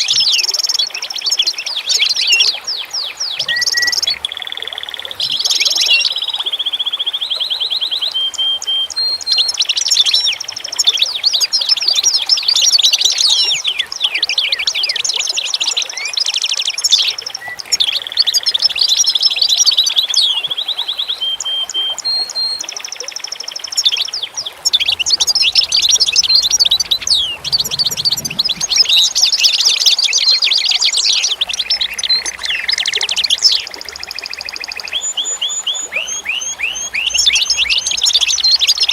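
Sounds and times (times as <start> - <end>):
chorus of songbirds: 0.0 - 38.9.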